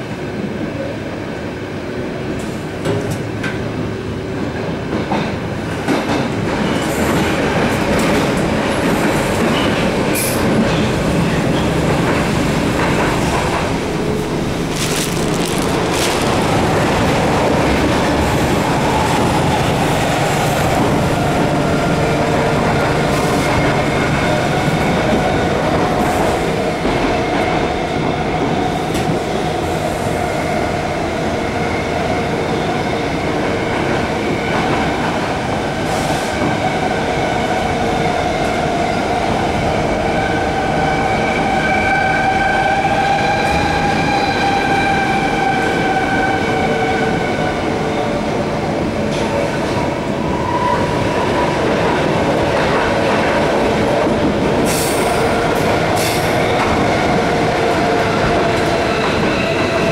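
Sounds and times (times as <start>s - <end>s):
metro wheels rumbling on track: 0.0s - 59.9s.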